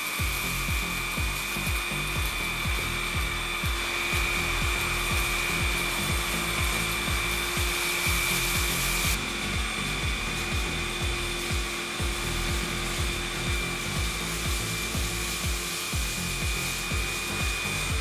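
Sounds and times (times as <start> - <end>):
background music with beat: 0.0 - 18.0
vacuum motor whine: 0.0 - 18.0.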